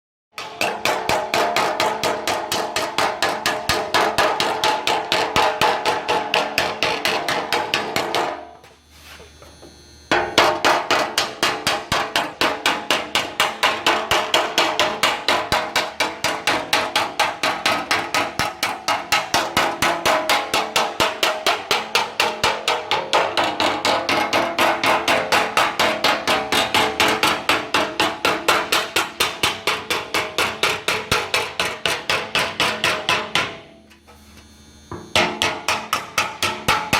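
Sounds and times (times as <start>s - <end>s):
hammer blows on sheet metal: 0.4s - 8.5s, 10.1s - 33.8s, 34.9s - 36.9s.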